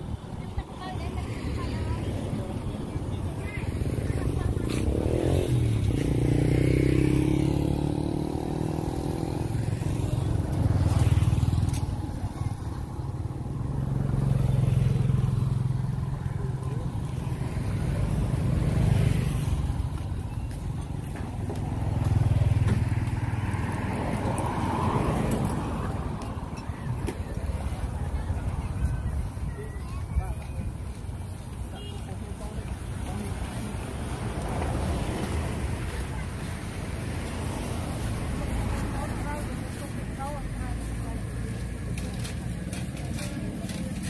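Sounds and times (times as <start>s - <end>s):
road traffic passing: 0.0s - 44.0s.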